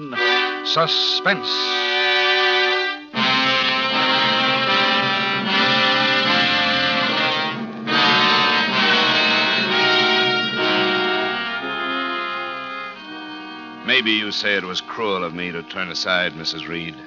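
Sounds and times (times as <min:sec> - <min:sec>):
dramatic orchestral music: 0:00.0 - 0:17.0.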